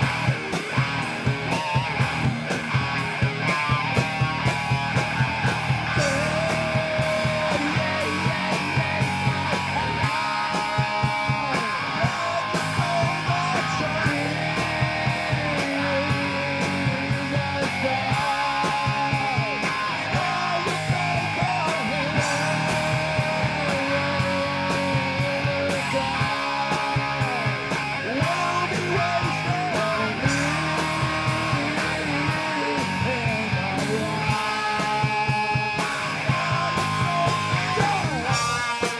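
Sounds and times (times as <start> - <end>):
guitar bending in pitch: 0.0 - 38.9
rock band playing live: 0.0 - 38.9.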